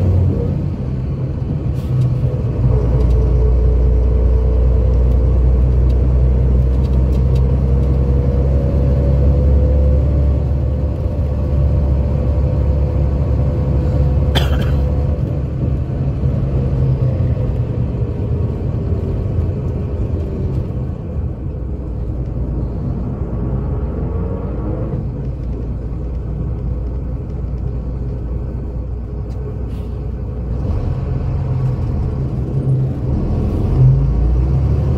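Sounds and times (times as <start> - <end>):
diesel coach engine drone: 0.0 - 34.9.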